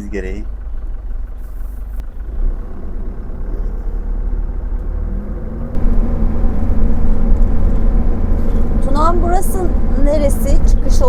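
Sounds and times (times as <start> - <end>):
engine rumble: 0.0 - 11.0
road noise: 0.0 - 11.0.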